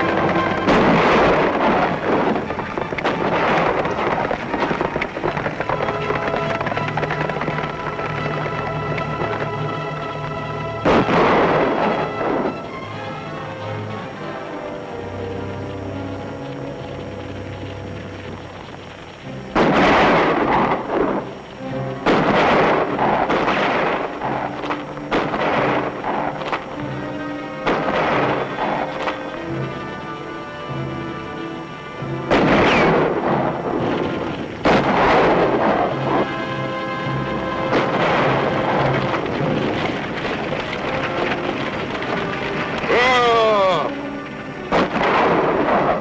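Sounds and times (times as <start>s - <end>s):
echoing gunshots: 0.0s - 13.4s, 14.0s - 46.0s
dramatic background music: 0.0s - 46.0s
galloping horses and stagecoach: 0.0s - 46.0s
sharp cracks: 0.0s - 46.0s.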